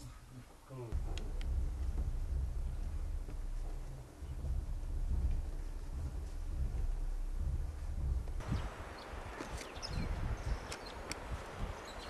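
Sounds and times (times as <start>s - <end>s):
low steady rumble: 0.8s - 11.8s.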